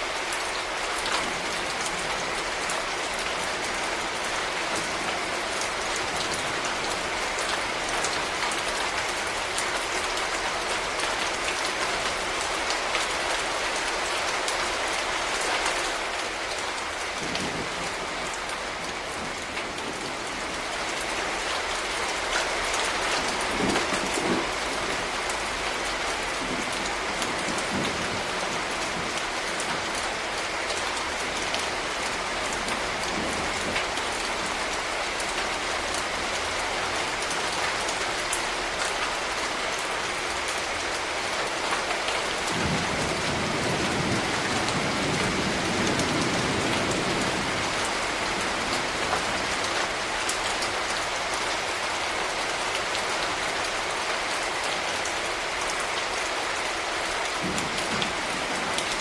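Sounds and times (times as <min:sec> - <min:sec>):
rain pattering on hard surfaces: 0:00.0 - 0:59.0.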